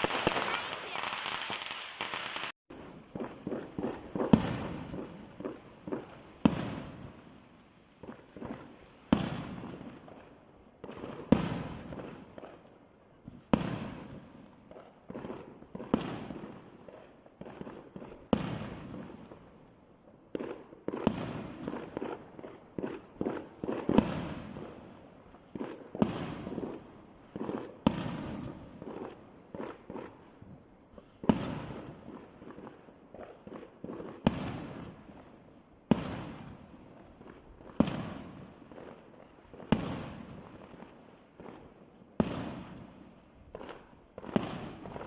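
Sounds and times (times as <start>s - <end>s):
small firework pops: 0.0s - 19.4s, 20.3s - 45.0s
fireworks bangs: 0.0s - 19.5s, 20.3s - 45.0s.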